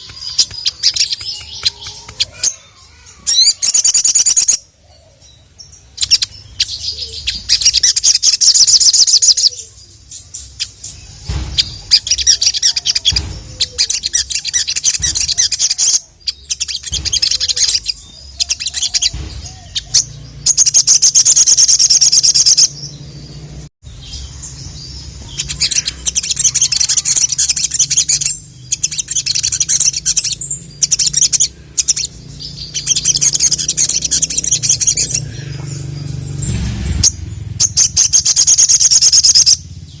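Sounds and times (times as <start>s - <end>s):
bird chirps and twitters: 0.0s - 40.0s
sunbird singing trills: 0.0s - 40.0s.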